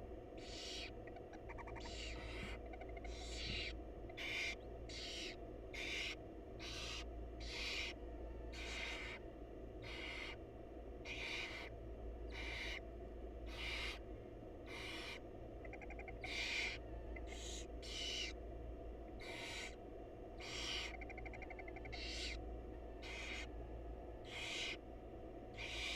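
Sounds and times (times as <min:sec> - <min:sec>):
owl chicks hissing begging calls: 0:00.4 - 0:09.2, 0:09.8 - 0:10.4, 0:11.0 - 0:18.4, 0:19.2 - 0:19.8, 0:20.4 - 0:22.4, 0:23.0 - 0:23.5, 0:24.2 - 0:24.8, 0:25.5 - 0:25.9.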